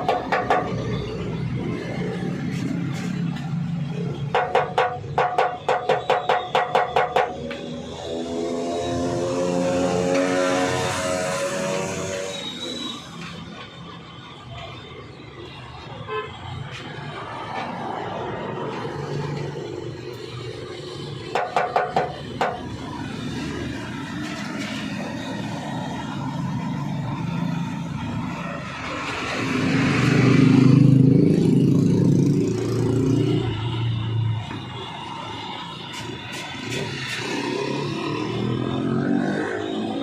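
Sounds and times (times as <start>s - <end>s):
vehicle engine: 0.0s - 15.9s, 16.6s - 40.0s
road traffic passing: 0.0s - 40.0s.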